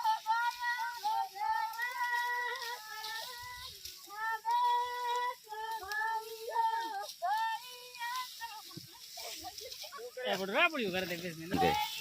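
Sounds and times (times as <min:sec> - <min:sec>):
women singing folk song: 0:00.0 - 0:10.4, 0:11.5 - 0:12.0.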